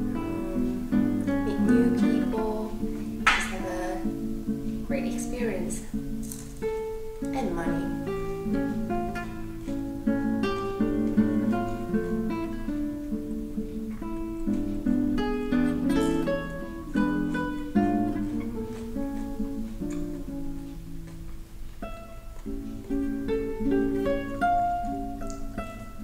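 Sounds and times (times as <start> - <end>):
plucked acoustic guitar tune: 0.0 - 26.0.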